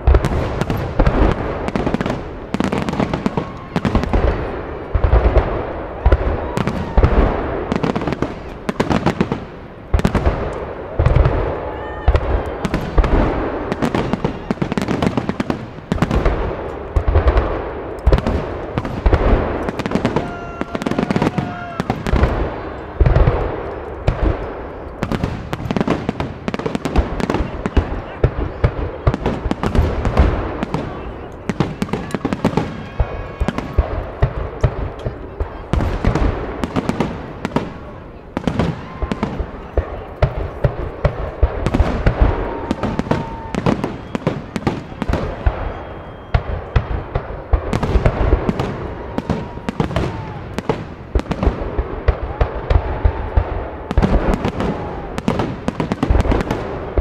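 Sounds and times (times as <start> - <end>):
firework bangs: 0.0 - 57.0
firework crackling: 0.0 - 57.0.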